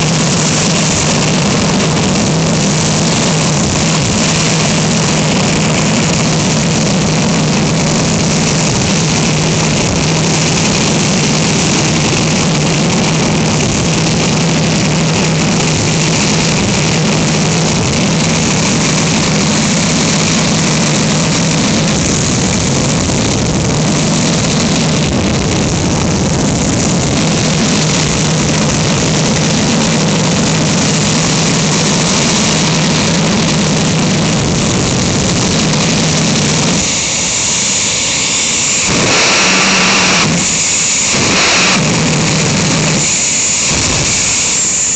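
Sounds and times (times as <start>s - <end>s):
jet engine running: 0.0s - 44.9s.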